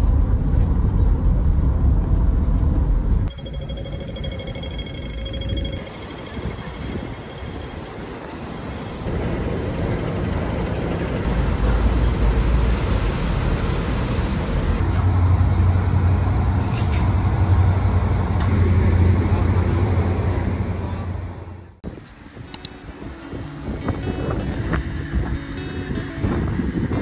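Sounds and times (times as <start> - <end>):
train rumble: 0.0 - 22.7.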